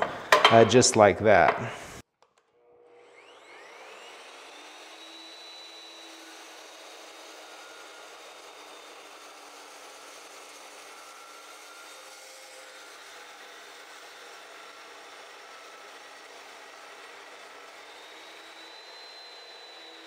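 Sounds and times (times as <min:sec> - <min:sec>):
chop saw cutting steel: 0:02.6 - 0:20.0.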